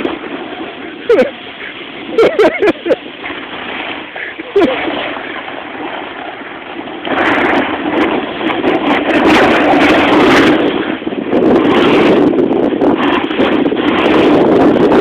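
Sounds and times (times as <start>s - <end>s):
snowboard sliding over snow: 0.0s - 15.0s
wind buffeting microphone: 0.0s - 15.0s.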